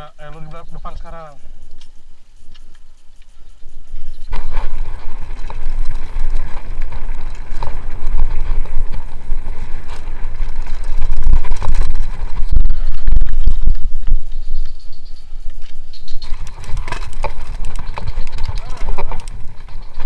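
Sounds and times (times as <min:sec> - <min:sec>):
mountain bike rattling over trail: 0:00.0 - 0:20.0
wind buffeting microphone: 0:00.0 - 0:20.0.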